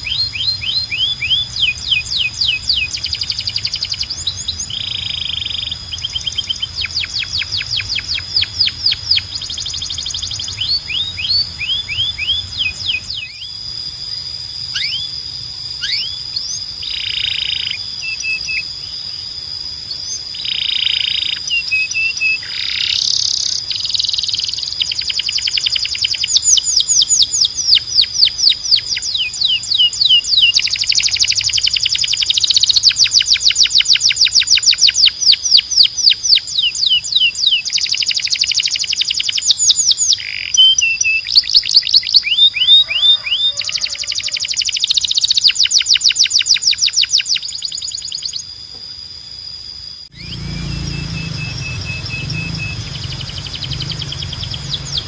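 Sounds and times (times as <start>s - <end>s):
canary singing trills: 0.0s - 49.0s, 49.8s - 55.0s
thin steady high tone: 0.0s - 55.0s.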